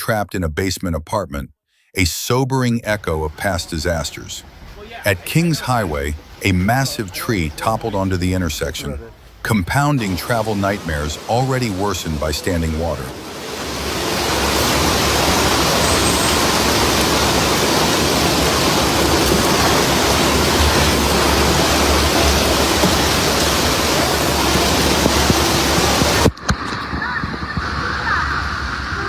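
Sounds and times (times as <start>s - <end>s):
heavy rain rushing water: 2.8s - 29.0s.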